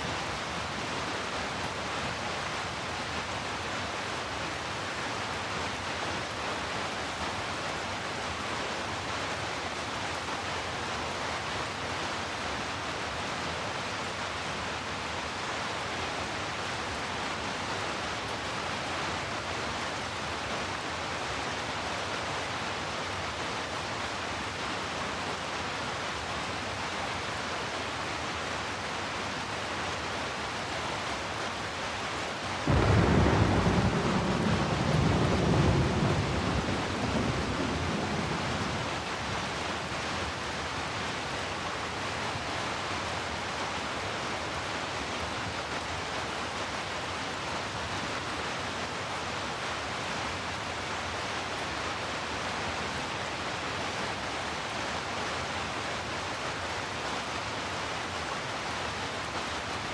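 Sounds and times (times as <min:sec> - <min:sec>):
heavy rain hiss: 0:00.0 - 0:59.9.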